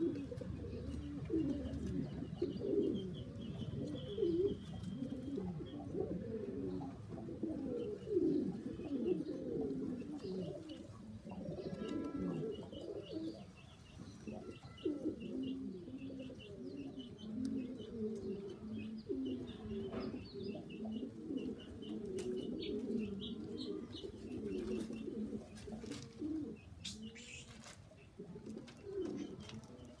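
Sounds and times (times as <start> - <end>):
pigeons cooing: 0.0 - 30.0.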